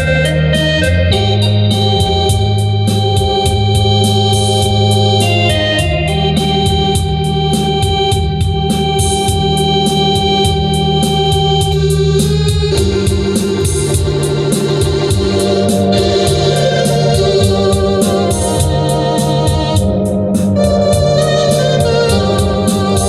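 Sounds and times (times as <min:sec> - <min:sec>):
high ticking beat: 0:00.0 - 0:23.0
organ playing chords: 0:00.0 - 0:23.0.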